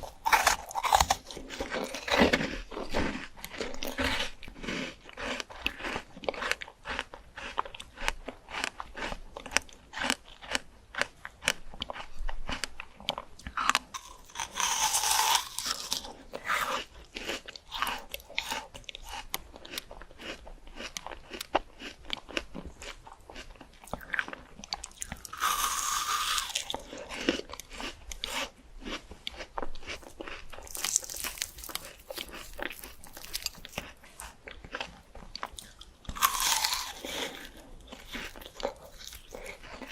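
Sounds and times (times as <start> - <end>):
crunching and chewing fruit: 0.0 - 39.9.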